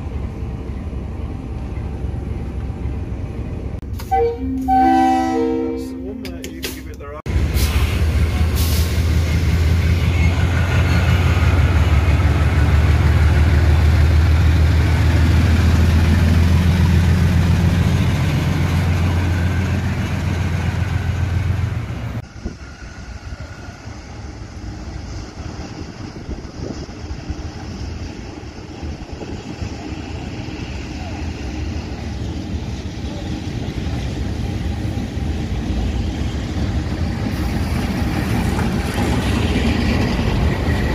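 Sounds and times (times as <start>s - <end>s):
locomotive engine rumble: 0.0s - 40.9s
low rumble of approaching train: 0.0s - 40.9s.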